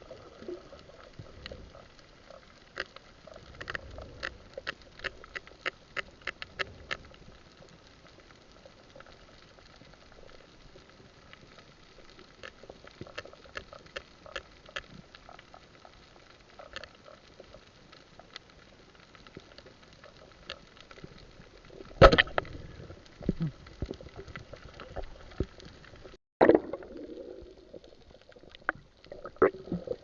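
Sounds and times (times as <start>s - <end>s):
underwater clicks and crackling: 0.0s - 30.0s.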